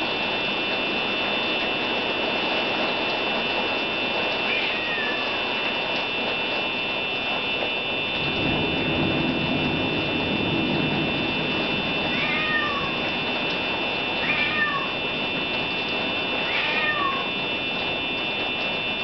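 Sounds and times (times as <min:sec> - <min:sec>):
rain rushing against windows: 0:00.0 - 0:19.0
steady high whine: 0:00.0 - 0:19.0.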